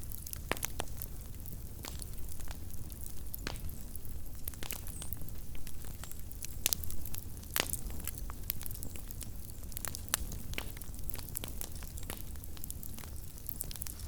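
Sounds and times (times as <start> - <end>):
campfire crackling and popping: 0.0 - 14.0
fire low rumble: 0.0 - 14.0.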